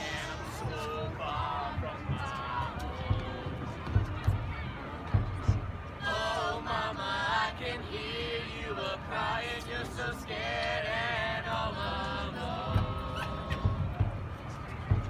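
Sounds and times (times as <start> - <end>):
group of voices singing: 0.0 - 4.0, 6.0 - 14.2.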